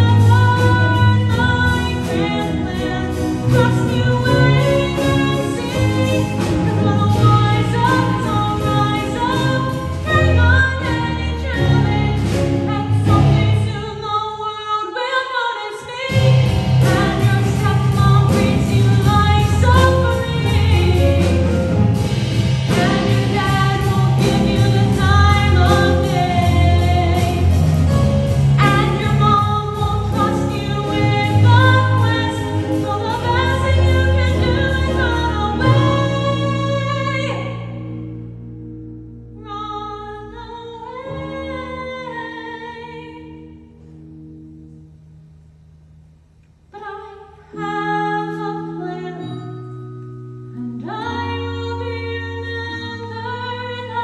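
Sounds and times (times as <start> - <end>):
instrumental accompaniment: 0.0 - 14.2, 16.1 - 54.0
woman singing: 0.0 - 21.8, 22.7 - 37.9, 39.4 - 43.7, 46.8 - 49.6, 50.6 - 54.0.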